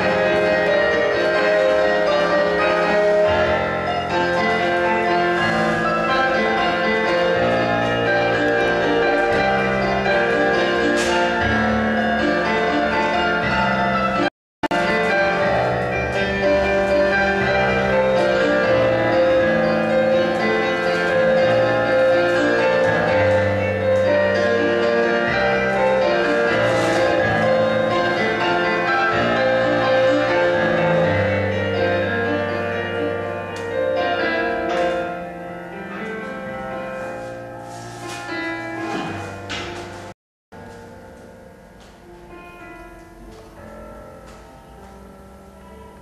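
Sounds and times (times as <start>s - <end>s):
classical piano music: 0.0s - 46.0s.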